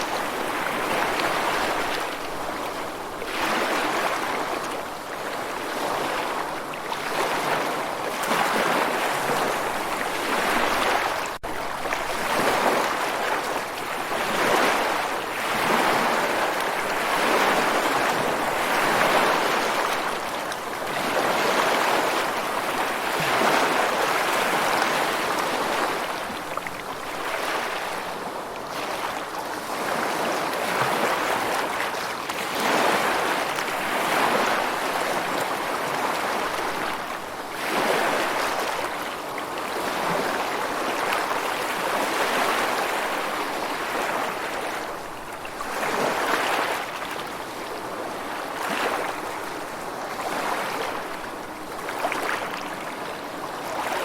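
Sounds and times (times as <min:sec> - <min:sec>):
ocean surf waves washing: 0:00.0 - 0:54.0.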